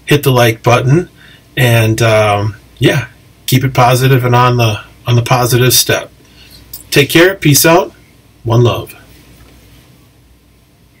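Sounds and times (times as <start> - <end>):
faint steady hiss: 0.0 - 11.0
low electrical hum: 0.0 - 11.0.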